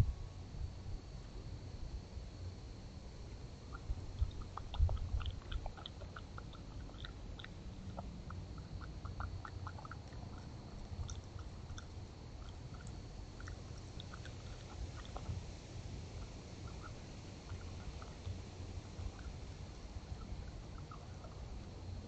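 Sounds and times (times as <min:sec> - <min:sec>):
raccoon chewing and crunching food: 0:03.3 - 0:22.0.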